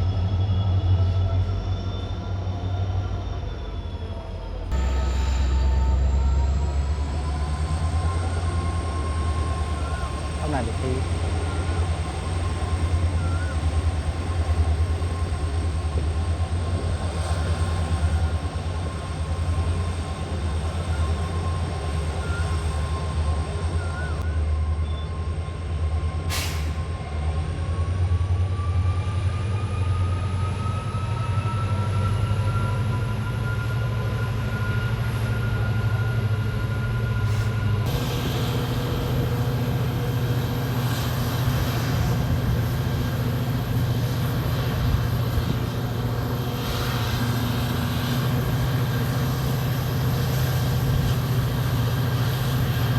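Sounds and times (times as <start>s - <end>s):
diesel locomotive engine humming: 0.0s - 52.9s.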